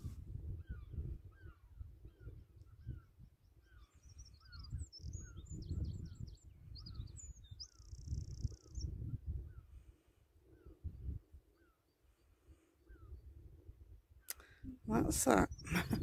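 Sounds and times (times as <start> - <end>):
high twittering birdsong: 0.4 - 16.0.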